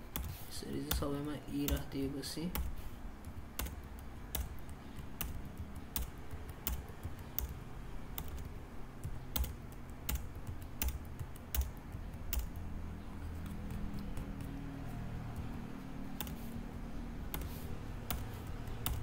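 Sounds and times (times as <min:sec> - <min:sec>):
keyboard keys clicking: 0:00.0 - 0:19.0.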